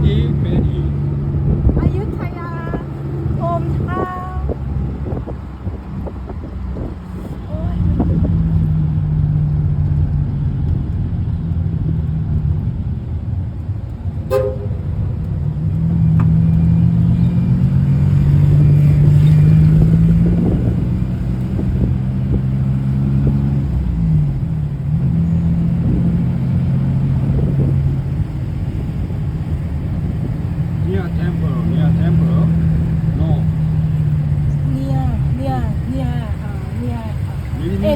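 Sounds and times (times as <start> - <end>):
diesel train engine drone: 0.0 - 37.9.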